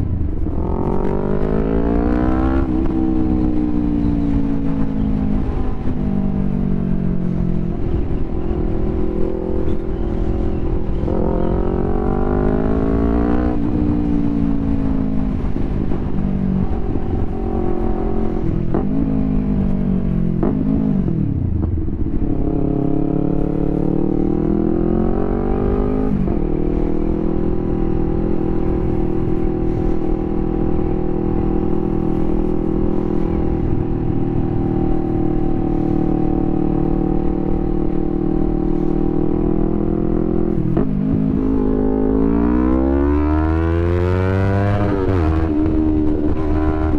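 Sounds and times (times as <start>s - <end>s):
motorcycle engine revving: 0.0s - 16.0s, 16.6s - 46.9s.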